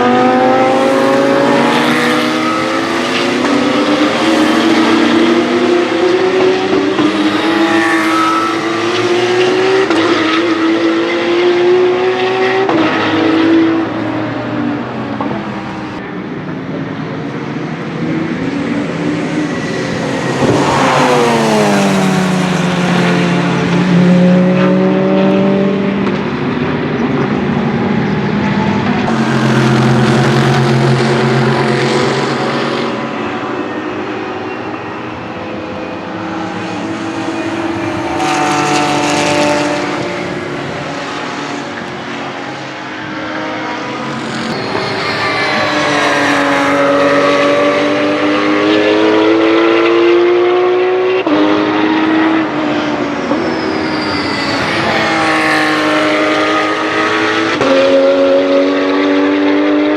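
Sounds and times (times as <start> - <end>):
race cars passing: 0.0 - 59.9
background engines running: 11.4 - 59.9.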